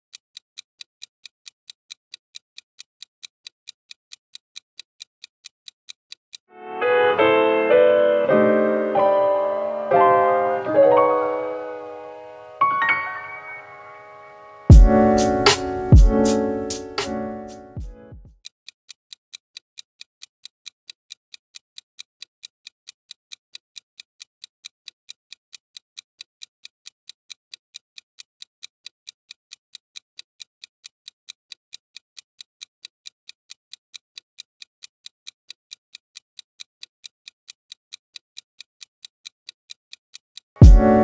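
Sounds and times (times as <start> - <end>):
clock-like ticks: 0.0 - 13.2, 14.7 - 41.0.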